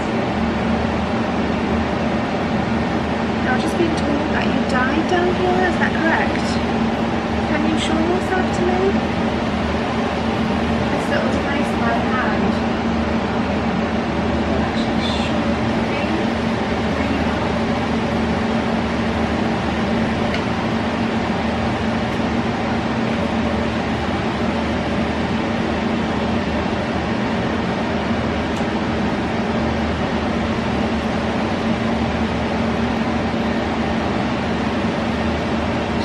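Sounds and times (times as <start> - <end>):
cooling unit fan humming: 0.0 - 36.0.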